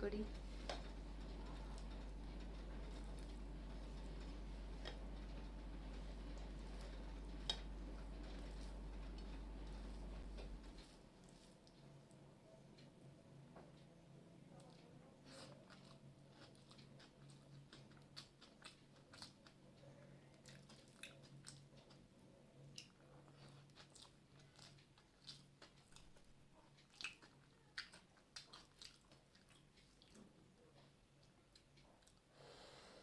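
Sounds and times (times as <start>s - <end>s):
faint low hum: 0.0s - 33.0s
person chewing food: 0.3s - 12.1s, 14.6s - 32.3s.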